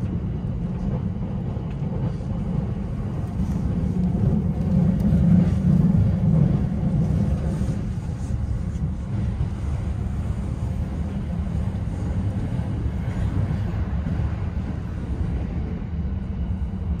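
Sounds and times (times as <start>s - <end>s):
train carriage rumbling on track: 0.0s - 17.0s.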